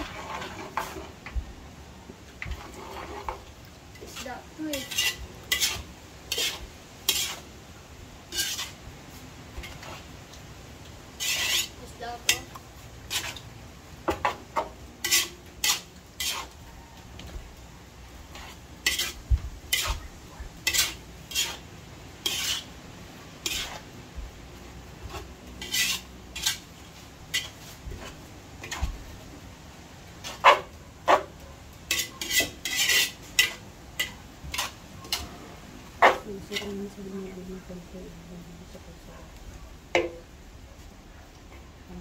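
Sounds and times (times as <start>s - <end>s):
metal spatula scraping a wok: 0.0s - 1.4s, 2.3s - 7.6s, 8.2s - 22.8s, 23.4s - 37.4s.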